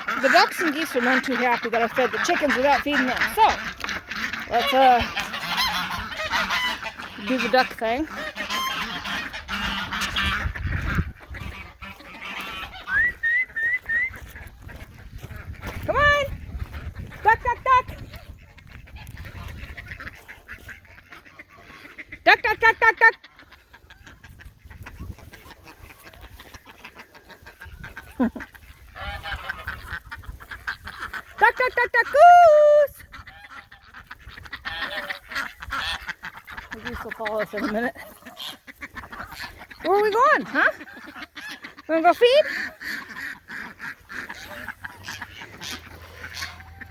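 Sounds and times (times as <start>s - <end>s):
geese honking: 0.0s - 46.9s.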